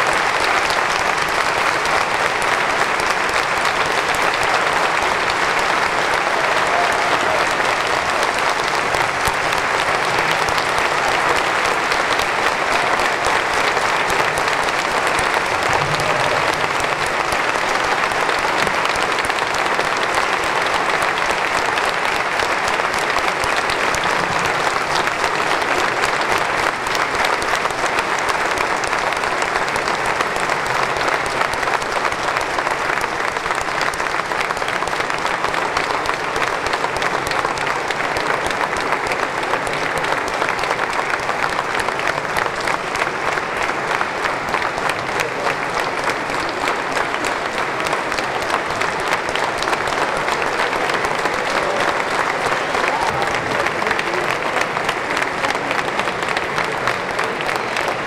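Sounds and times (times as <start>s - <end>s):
large audience applauding: 0.0s - 58.0s.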